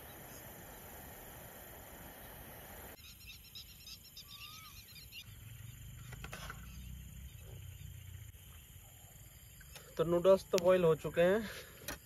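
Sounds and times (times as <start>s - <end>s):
insects chirping in trills: 0.0s - 12.0s.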